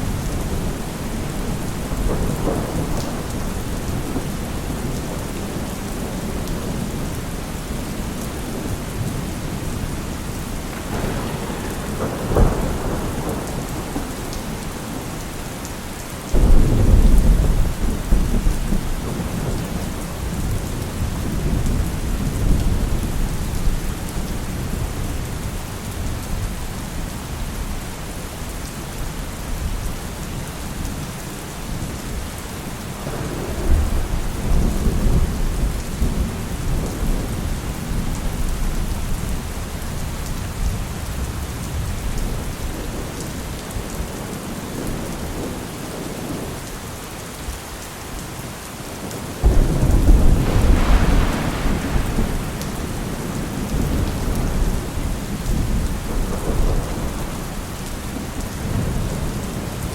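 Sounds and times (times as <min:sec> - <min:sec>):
thunder rumbling: 0:00.0 - 0:26.1, 0:33.0 - 0:46.4, 0:49.4 - 0:59.9
heavy rain falling: 0:00.0 - 0:59.9.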